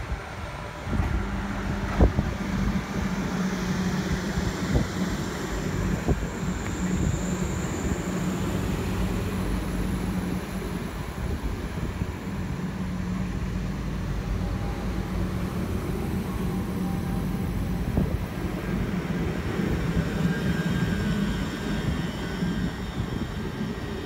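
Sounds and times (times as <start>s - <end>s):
train motors and wheels rumbling: 0.0s - 24.0s.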